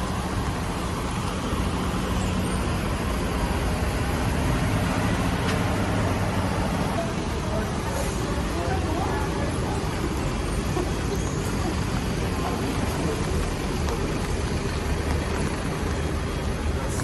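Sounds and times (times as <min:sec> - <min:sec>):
low traffic rumble with hiss: 0:00.0 - 0:17.0
vehicles passing: 0:00.0 - 0:17.0.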